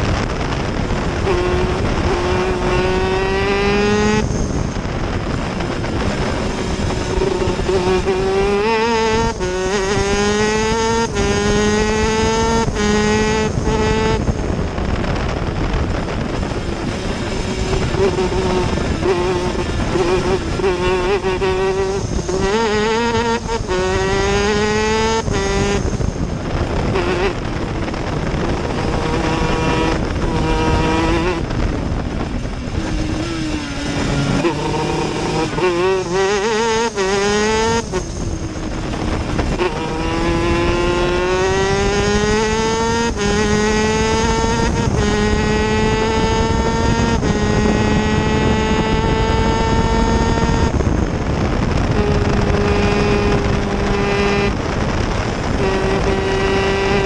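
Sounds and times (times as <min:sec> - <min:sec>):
two-stroke kart engine revving: 0:00.0 - 0:57.0.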